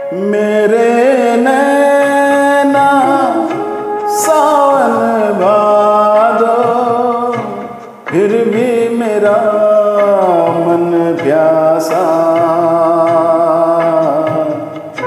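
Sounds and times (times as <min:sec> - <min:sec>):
karaoke backing track: 0:00.0 - 0:15.0
man singing: 0:00.0 - 0:15.0.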